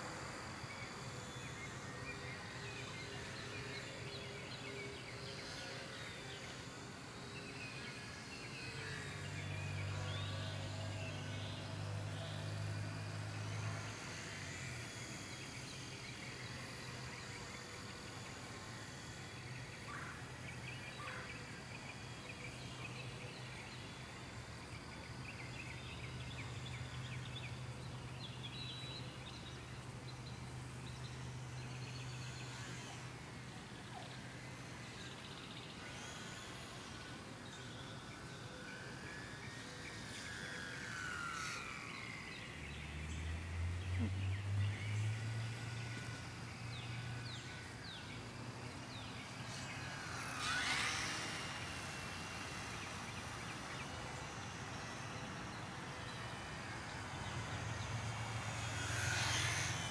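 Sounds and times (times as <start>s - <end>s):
model plane motor droning: 0.0s - 59.9s
insects calling: 0.1s - 59.9s.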